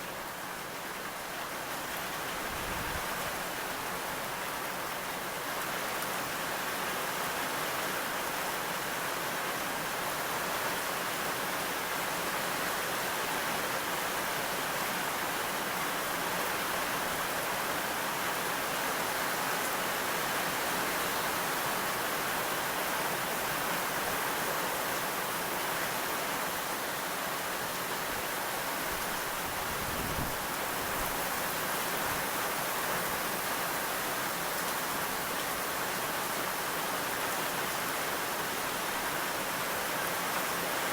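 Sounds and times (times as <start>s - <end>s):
dense rainfall hissing: 0.0s - 40.9s.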